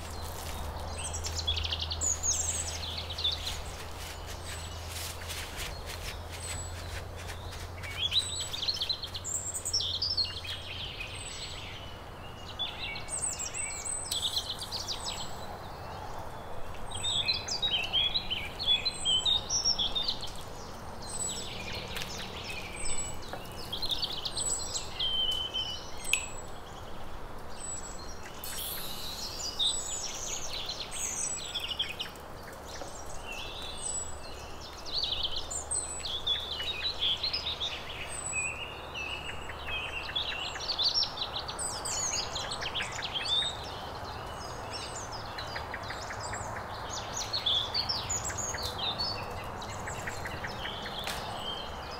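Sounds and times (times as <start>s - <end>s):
songbirds warbling and chirping: 0.0s - 51.9s.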